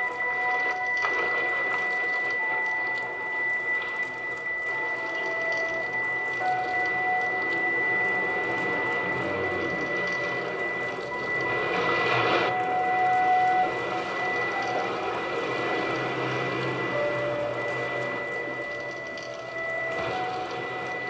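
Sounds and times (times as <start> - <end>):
lower electronic tones: 0.0 - 21.0
steady high sine tone: 0.0 - 21.0.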